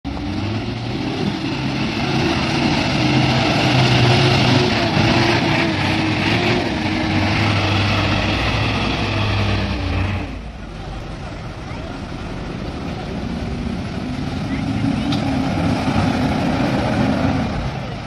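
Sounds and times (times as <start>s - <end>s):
diesel truck engine running: 0.1s - 18.0s.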